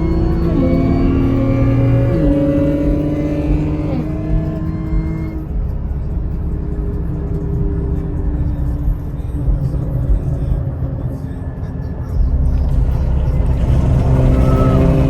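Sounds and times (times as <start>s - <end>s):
held music tones: 0.0s - 15.0s
road vehicle rumble: 0.0s - 15.0s.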